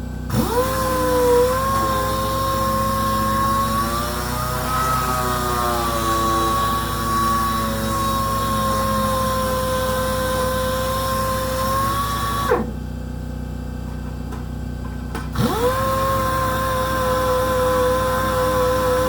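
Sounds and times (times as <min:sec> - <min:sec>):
power sander whining: 0:00.3 - 0:12.8, 0:15.4 - 0:19.0.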